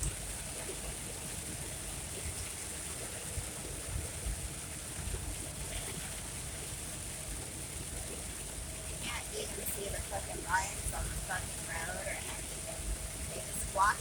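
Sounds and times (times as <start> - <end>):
heavy rain on truck: 0.0 - 14.0.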